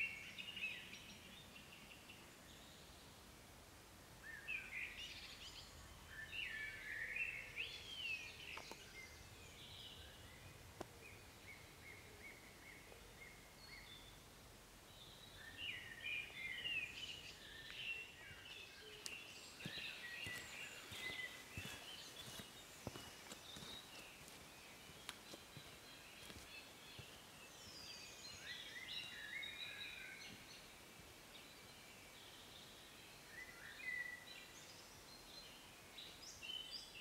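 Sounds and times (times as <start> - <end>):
songbirds warbling: 4.2 - 37.0.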